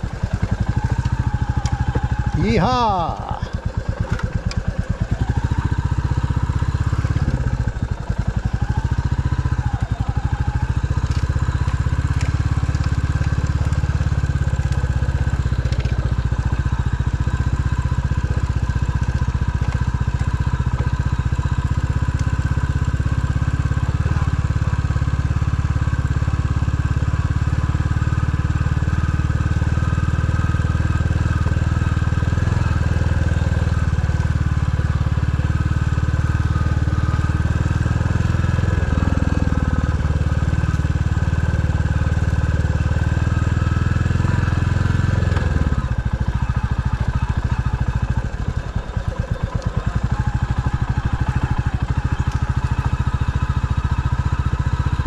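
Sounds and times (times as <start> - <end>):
vehicle engine running under load: 0.0 - 55.0.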